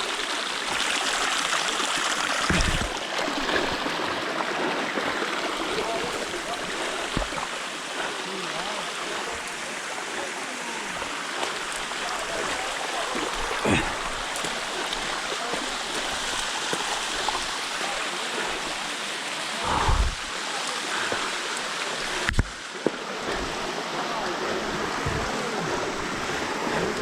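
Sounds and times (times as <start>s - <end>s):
waterfall stream rushing: 0.0s - 27.0s.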